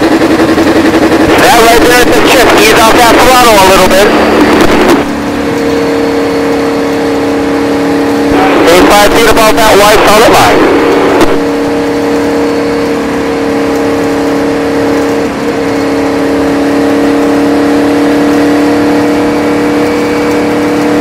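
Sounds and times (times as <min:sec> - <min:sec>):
race car engine drone: 0:00.0 - 0:21.0
wind and road noise: 0:00.0 - 0:21.0.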